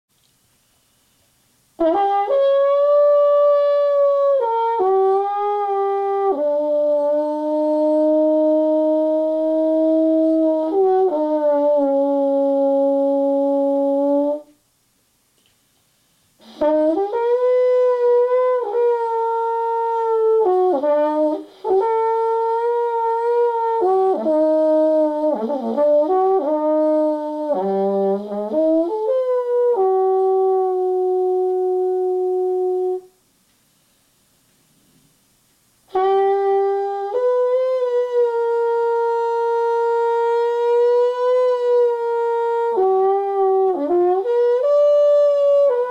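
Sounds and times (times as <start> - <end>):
trombone solo: 1.6 - 14.6, 16.4 - 33.3, 35.8 - 45.9.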